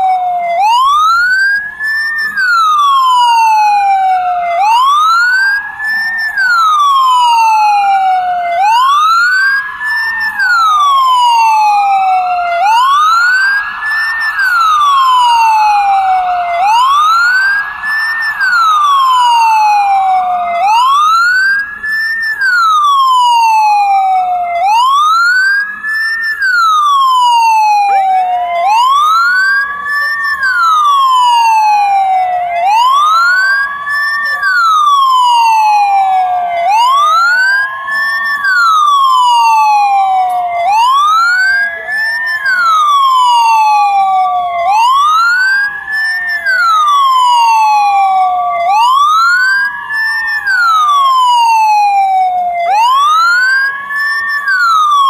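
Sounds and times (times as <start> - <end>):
ambulance siren wailing: 0.0 - 55.0
fainter second siren wail: 0.0 - 55.0.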